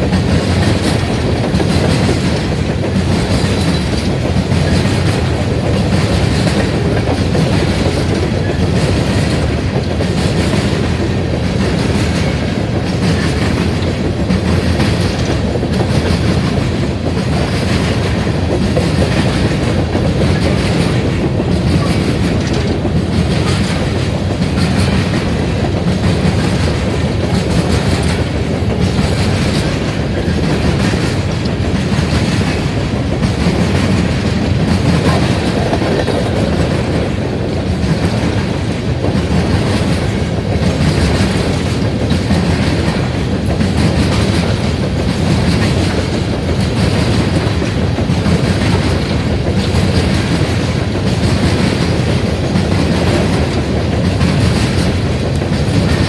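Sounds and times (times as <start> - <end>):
train cars rumbling and rattling: 0.0 - 56.0
wheels clacking over track: 0.0 - 56.0.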